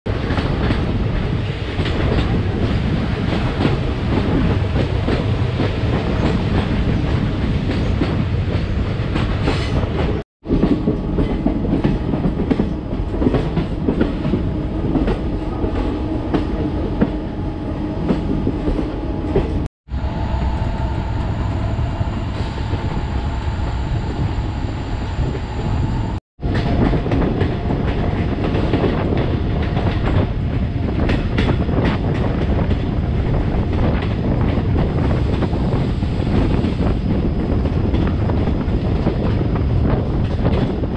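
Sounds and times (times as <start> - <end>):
train rumbling along track: 0.1 - 40.9.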